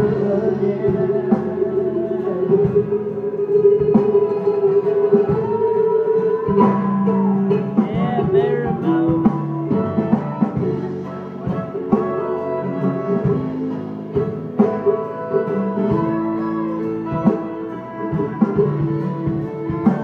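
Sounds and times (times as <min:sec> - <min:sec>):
acoustic band playing: 0:00.0 - 0:20.0
strummed and plucked guitar: 0:00.0 - 0:20.0.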